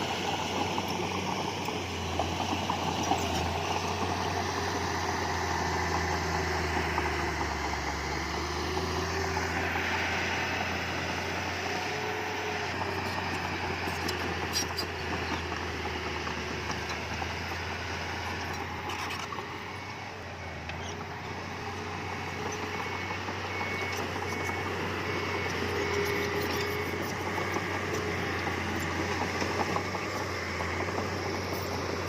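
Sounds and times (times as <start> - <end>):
heavy machinery engine hum: 0.0 - 32.0.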